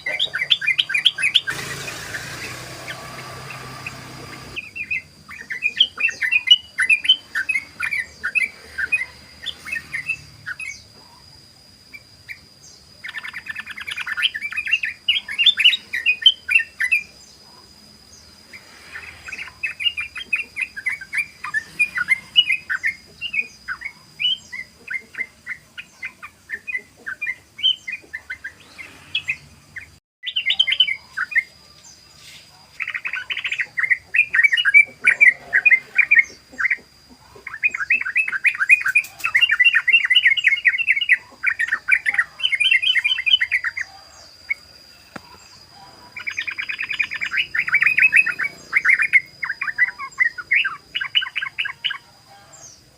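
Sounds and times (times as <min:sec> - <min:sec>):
bird singing chattering song: 0:00.0 - 0:52.9.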